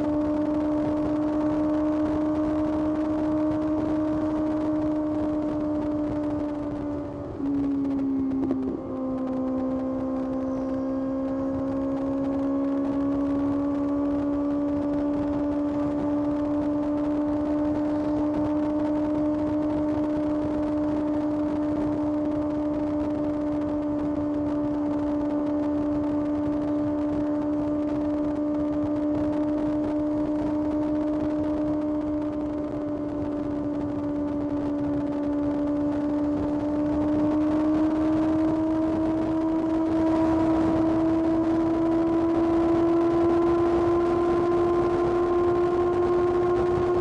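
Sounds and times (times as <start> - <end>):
motorcycle engine running hard: 0.0 - 47.0
wind rush: 0.0 - 47.0.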